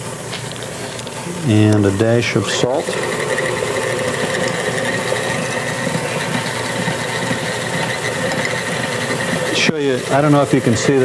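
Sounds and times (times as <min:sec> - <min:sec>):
stand mixer motor whining: 0:01.0 - 0:11.0.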